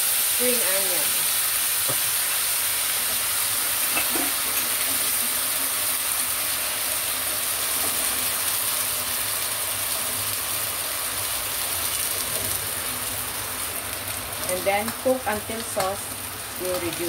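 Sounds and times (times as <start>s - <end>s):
chicken sizzling in a frying pan: 0.0s - 17.0s.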